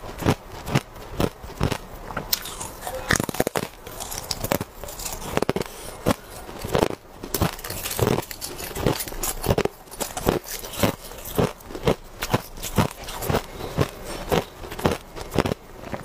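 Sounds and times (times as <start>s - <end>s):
ice being crunched and chewed: 0.1s - 16.0s.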